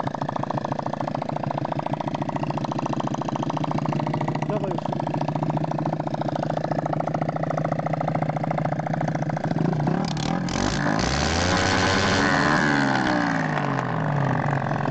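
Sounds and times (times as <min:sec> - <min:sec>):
unmuffled motorcycle engine revving: 0:00.0 - 0:14.9.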